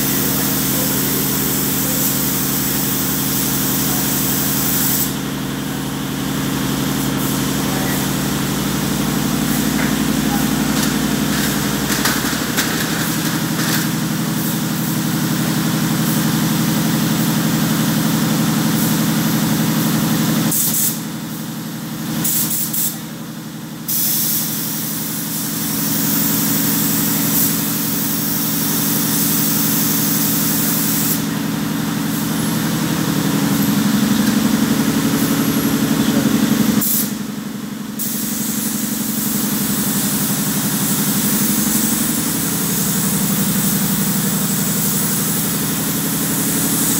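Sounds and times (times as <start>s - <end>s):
paint spray gun hissing: 0.0s - 18.0s, 18.6s - 21.4s, 22.2s - 23.0s, 23.8s - 37.3s, 38.0s - 46.9s
steady motor hum: 0.0s - 22.3s, 24.5s - 46.9s.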